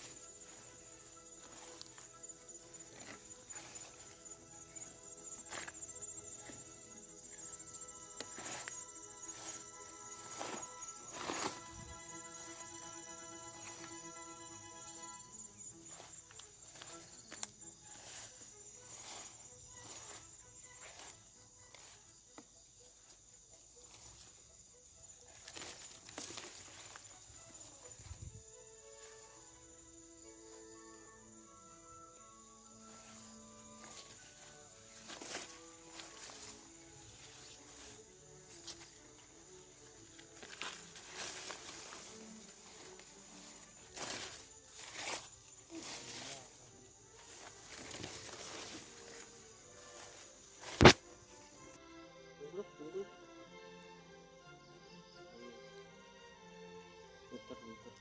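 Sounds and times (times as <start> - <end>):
night insects trilling: 0.0 - 58.0.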